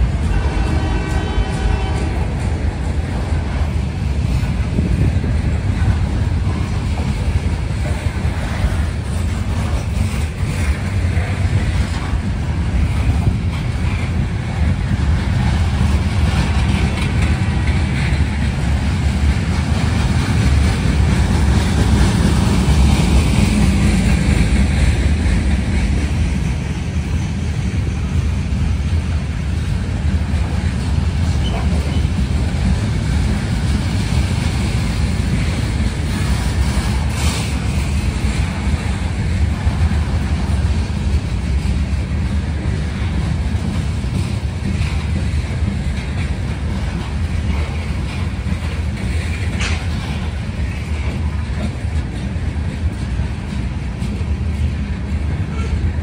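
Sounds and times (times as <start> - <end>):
freight cars rumbling on rails: 0.0 - 56.0.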